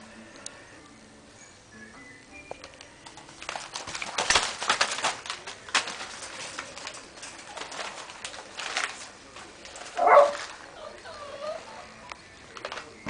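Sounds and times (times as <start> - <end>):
puppies scrambling on newspaper: 2.5 - 13.0.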